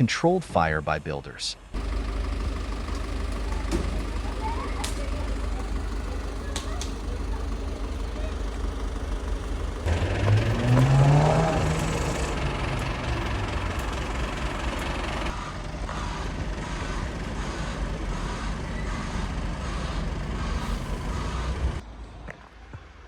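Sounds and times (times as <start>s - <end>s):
diesel engine revving: 1.7s - 21.8s.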